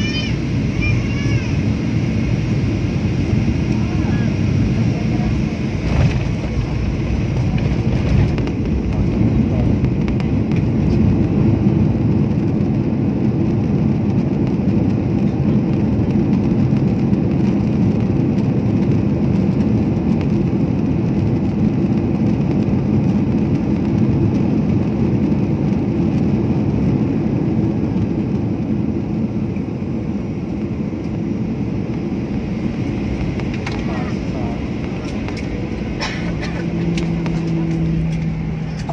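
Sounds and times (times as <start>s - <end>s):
airplane cabin noise: 0.0s - 38.9s.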